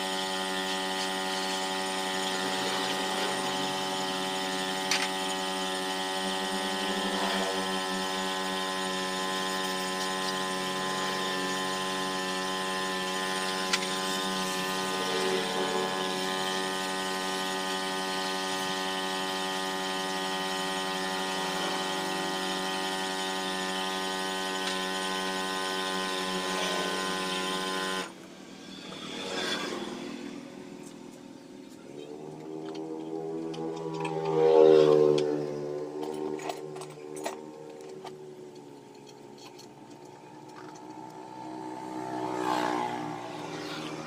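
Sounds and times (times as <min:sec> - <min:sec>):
mechanical motor drone: 0:00.0 - 0:44.0.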